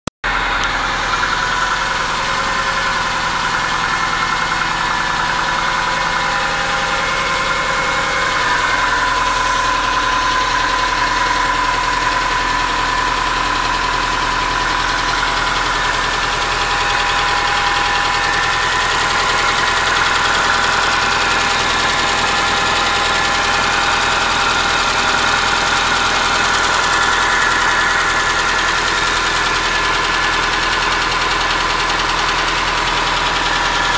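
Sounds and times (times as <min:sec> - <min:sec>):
car engine running with knock: 0:00.2 - 0:33.9.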